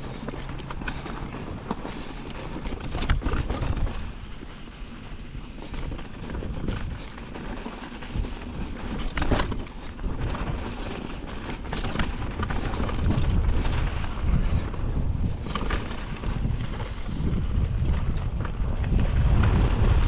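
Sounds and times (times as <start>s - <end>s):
bike rattling and knocking: 0.0s - 20.0s
tyres rumbling over rough ground: 0.0s - 20.0s.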